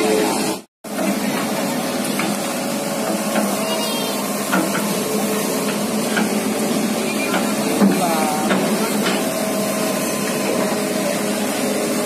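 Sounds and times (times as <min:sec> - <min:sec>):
ship engine drone: 0:00.0 - 0:12.0.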